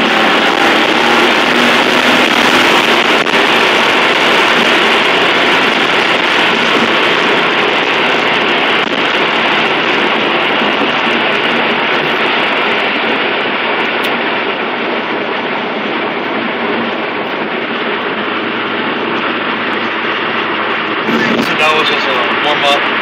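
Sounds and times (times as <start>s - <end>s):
car engine humming: 0.0s - 23.0s
tyre and wind noise: 0.0s - 23.0s.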